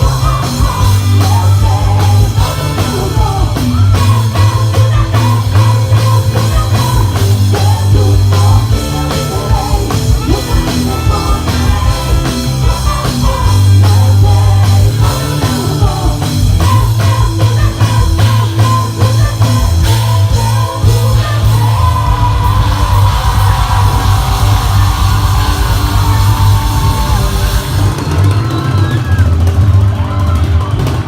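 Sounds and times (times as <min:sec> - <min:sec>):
person singing: 0:00.0 - 0:27.4
drums: 0:00.0 - 0:31.0
electric guitar: 0:00.0 - 0:31.0
heavy bass line: 0:00.0 - 0:31.0
live rock band playing: 0:00.0 - 0:31.0.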